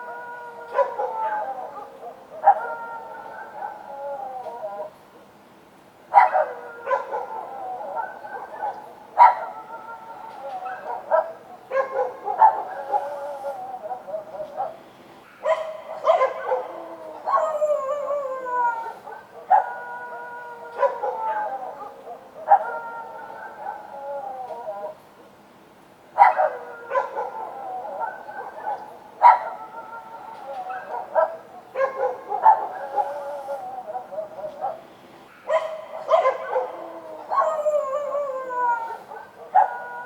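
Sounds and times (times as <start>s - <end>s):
dogs barking and howling: 0.0s - 5.0s, 6.1s - 25.1s, 26.2s - 40.0s.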